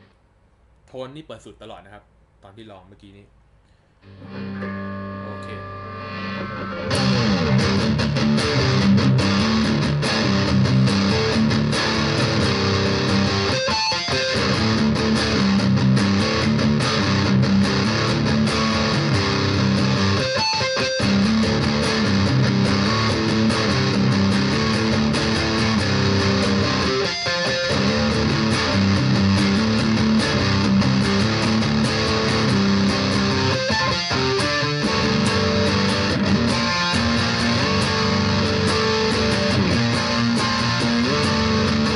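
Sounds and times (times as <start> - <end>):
heavy distorted electric guitar riff: 4.0 - 41.9.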